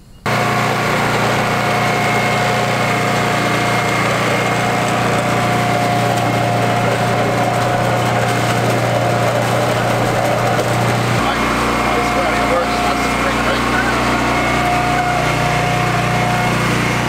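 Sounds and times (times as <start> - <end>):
concrete mixer engine running: 0.2 - 17.0.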